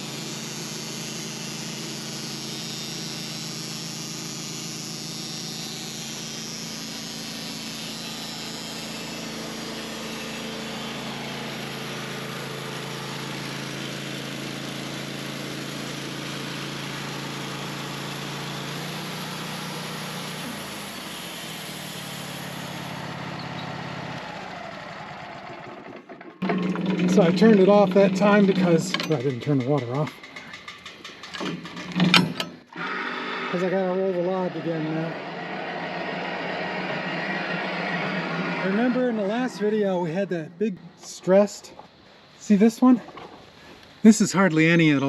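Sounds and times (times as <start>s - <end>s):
saw blade cutting log: 0.0s - 24.4s, 26.4s - 31.2s, 31.9s - 40.0s
sawmill engine running: 0.0s - 45.0s.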